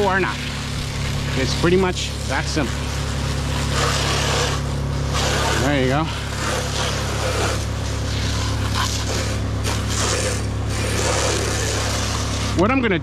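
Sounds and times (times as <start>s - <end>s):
hiss of water spray on wall: 0.0s - 12.6s
pressure washer engine running: 0.0s - 13.0s.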